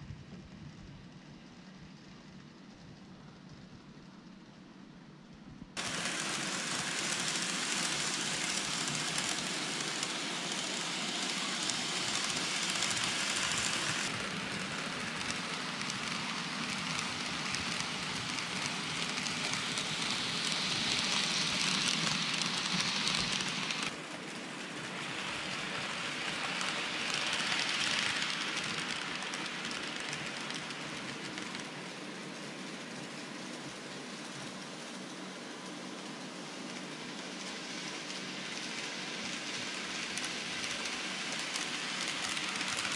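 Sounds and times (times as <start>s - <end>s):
model train wheels rattling on rails: 5.8s - 42.9s.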